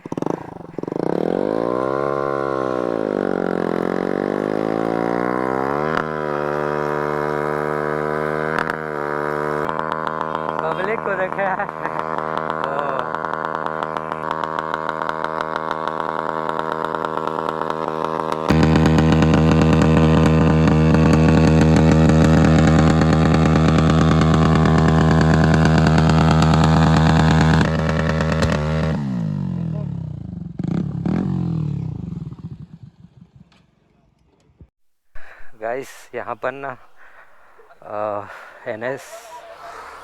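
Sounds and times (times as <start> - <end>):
motorcycle engine running: 0.0 - 33.5.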